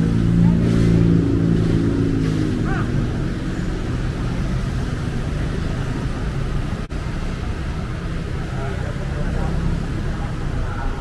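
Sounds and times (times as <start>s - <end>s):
street traffic rumble: 0.0s - 11.0s
vehicle engine hum: 0.0s - 11.0s.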